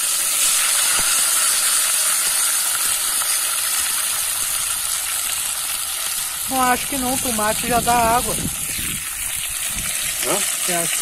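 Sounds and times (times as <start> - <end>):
onion and tomato sizzling in oil: 0.0 - 11.0.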